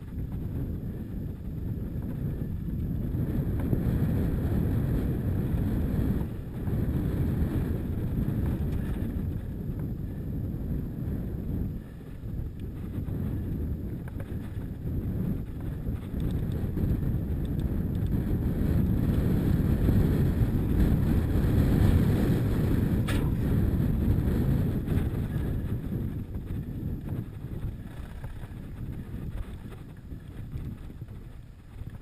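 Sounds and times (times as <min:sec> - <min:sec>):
tyres rumbling on dirt track: 0:00.0 - 0:32.0
wind buffeting microphone: 0:00.0 - 0:32.0.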